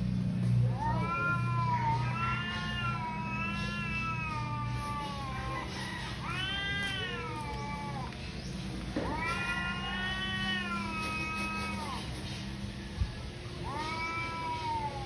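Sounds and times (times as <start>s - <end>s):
cats yowling: 0.5s - 15.0s.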